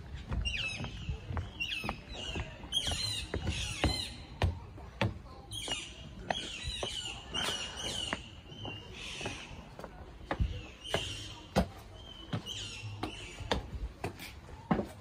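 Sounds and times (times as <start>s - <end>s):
birds chirping: 0.0s - 14.2s
footsteps on stone paving: 0.0s - 15.0s.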